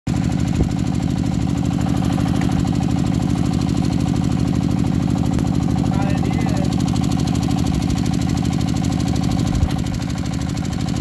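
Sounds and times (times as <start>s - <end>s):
small engine running: 0.1s - 11.0s.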